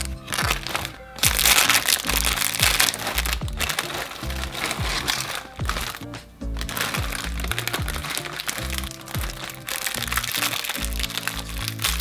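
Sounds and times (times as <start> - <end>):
background music with steady beat: 0.0 - 12.0
foil wrappers crinkling: 0.0 - 12.0.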